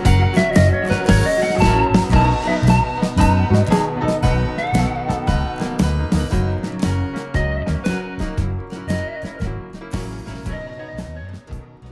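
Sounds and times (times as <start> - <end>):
background music with drum beat: 0.0 - 11.9.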